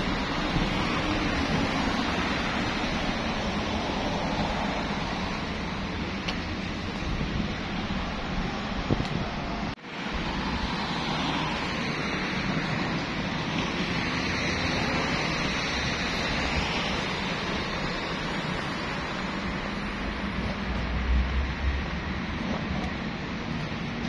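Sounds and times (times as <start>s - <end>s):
city street traffic rushing: 0.0s - 24.0s.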